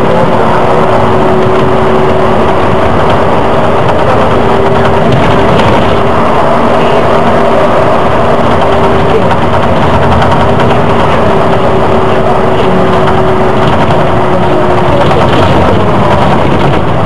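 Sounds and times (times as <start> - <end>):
bus engine and road noise: 0.0 - 17.0
whine dropping in pitch: 0.0 - 17.0.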